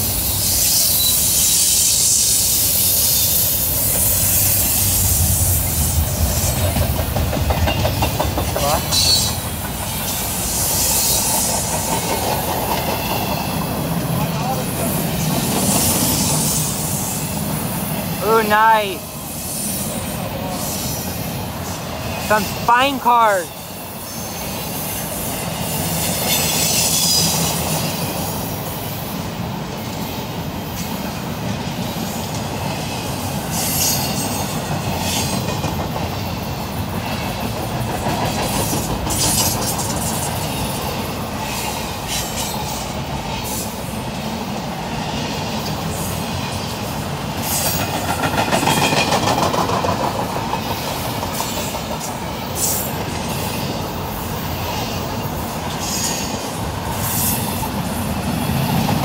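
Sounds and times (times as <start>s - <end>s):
train cars clanking: 0.0s - 23.0s, 23.7s - 59.0s
freight train wheels rumbling: 0.0s - 59.0s.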